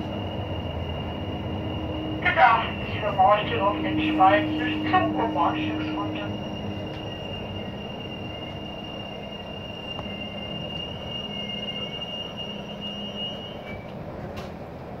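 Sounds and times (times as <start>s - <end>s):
high brake squeal: 0.0s - 14.0s
railcar rumbling and humming: 0.0s - 15.0s.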